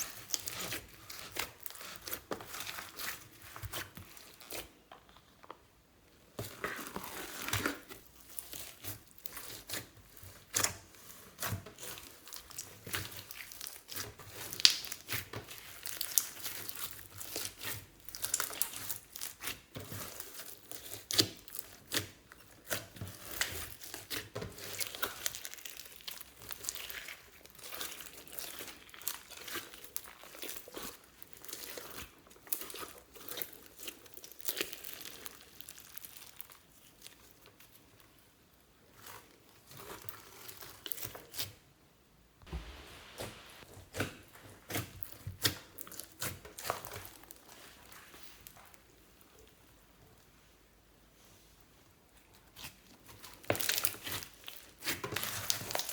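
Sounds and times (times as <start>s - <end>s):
hands squishing slime: 0.0s - 4.7s, 6.5s - 37.8s, 42.4s - 49.6s, 52.2s - 55.9s.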